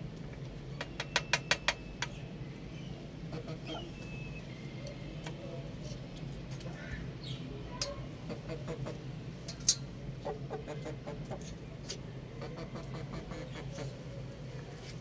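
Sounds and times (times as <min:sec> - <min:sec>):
young roosters clucking: 0:00.4 - 0:14.9.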